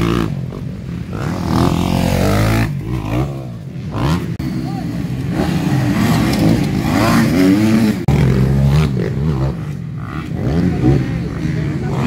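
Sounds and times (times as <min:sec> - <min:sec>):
dirt bikes revving: 0:00.0 - 0:12.0.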